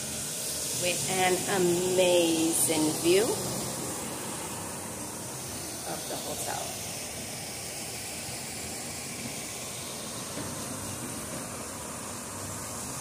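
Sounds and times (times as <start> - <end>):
steady hissing noise: 0.0 - 13.0.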